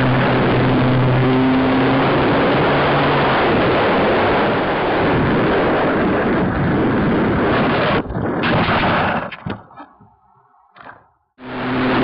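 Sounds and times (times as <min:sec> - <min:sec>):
rushing wind on microphone: 0:00.0 - 0:09.8.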